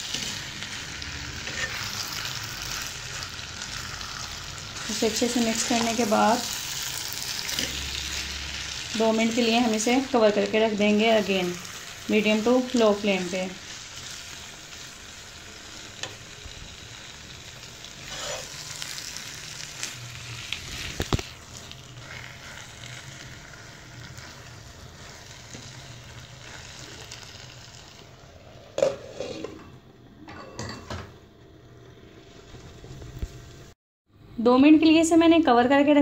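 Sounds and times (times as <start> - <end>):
food sizzling in a pan: 0.0 - 33.8.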